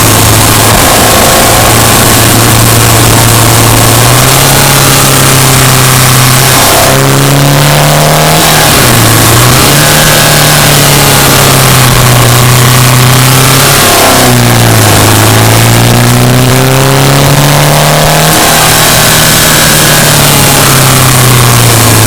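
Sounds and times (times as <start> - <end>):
car engine while driving: 0.0 - 22.0.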